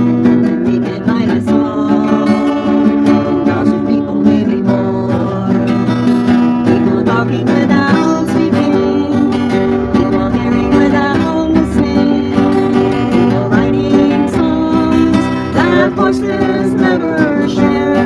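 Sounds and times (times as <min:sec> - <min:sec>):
guitar plucked and strummed: 0:00.0 - 0:18.0.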